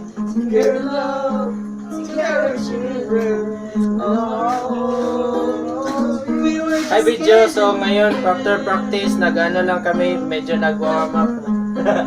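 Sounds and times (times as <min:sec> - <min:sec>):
acoustic guitar: 0:00.0 - 0:12.0
person singing: 0:00.0 - 0:12.0.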